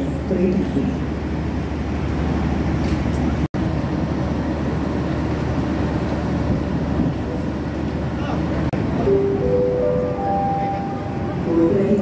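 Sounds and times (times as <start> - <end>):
train carriage low rumble: 0.0 - 12.0.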